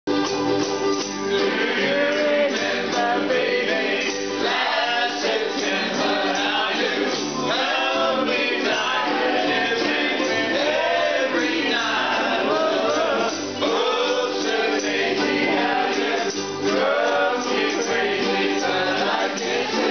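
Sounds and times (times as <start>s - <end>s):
ukuleles strumming: 0.1s - 19.9s
group singing in unison: 1.3s - 19.9s.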